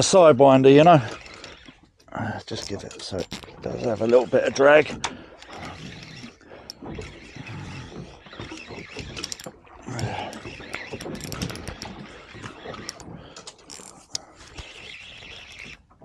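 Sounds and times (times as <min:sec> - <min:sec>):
fishing reel clicking: 0:00.0 - 0:15.9.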